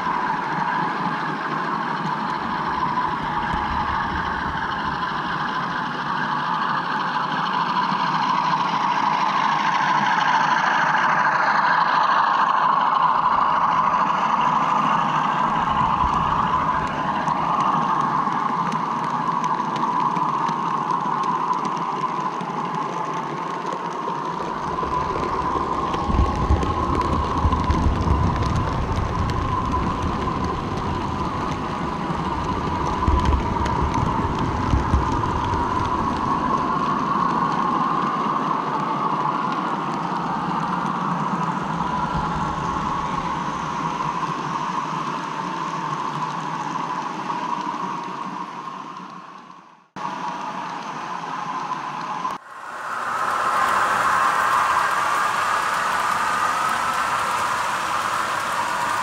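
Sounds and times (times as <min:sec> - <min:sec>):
model train motor whine: 0:00.0 - 0:49.0, 0:50.3 - 0:59.0
wheels rattling on rails: 0:00.0 - 0:59.0.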